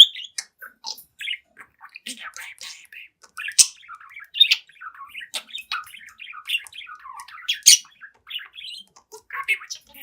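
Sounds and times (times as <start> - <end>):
budgerigar chattering: 0.0 - 10.0.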